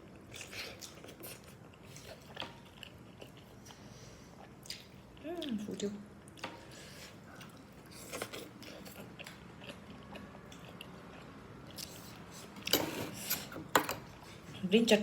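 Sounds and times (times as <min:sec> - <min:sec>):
person chewing food: 0:00.1 - 0:05.6, 0:06.2 - 0:12.7.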